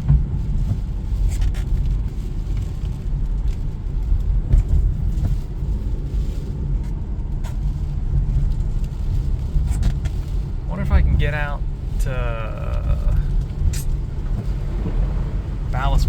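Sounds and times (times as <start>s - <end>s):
storm wind buffeting car: 0.0s - 16.0s.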